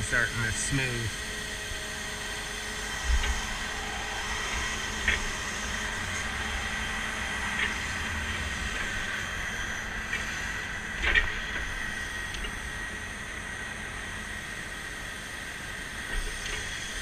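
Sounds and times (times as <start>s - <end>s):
hydraulic whine and hiss: 0.0s - 17.0s
low engine rumble: 0.0s - 17.0s.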